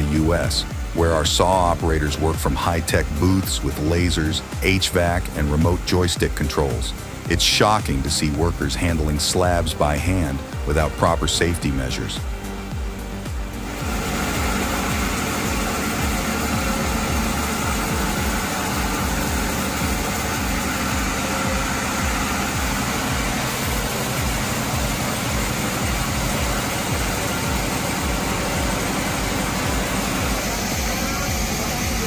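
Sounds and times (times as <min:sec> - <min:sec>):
heavy machinery engine running: 0:00.0 - 0:32.0.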